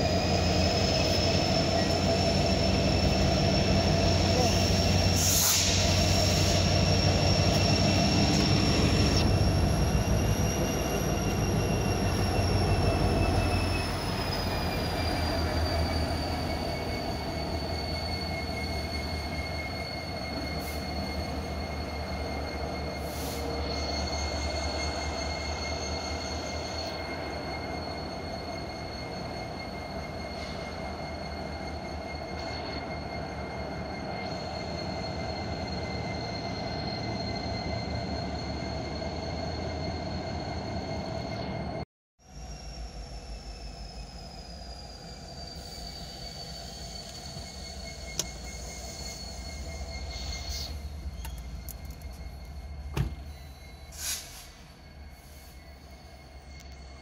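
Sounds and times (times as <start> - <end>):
freight train rumble: 0.0 - 57.0
train wheels squealing: 0.0 - 57.0.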